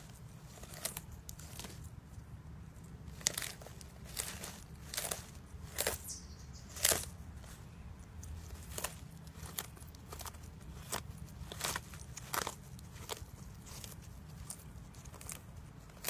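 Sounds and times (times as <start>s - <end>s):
tortoise crunching leafy greens: 0.0s - 16.0s.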